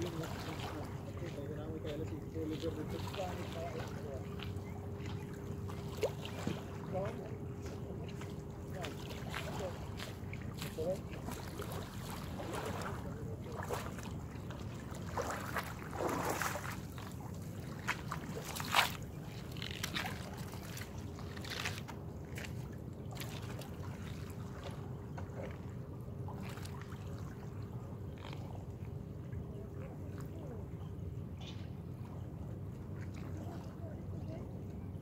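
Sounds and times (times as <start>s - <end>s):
water lapping against rocks: 0.0s - 29.1s.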